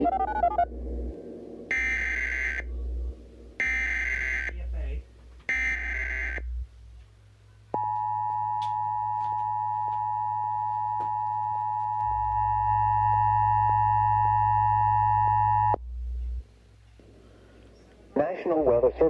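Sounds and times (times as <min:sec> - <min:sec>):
two steady pure tones: 0:00.0 - 0:17.0.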